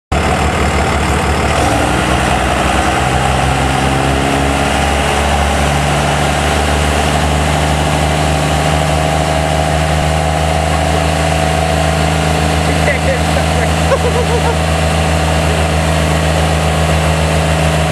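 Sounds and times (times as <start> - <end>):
diesel engine running: 0.1 - 17.9.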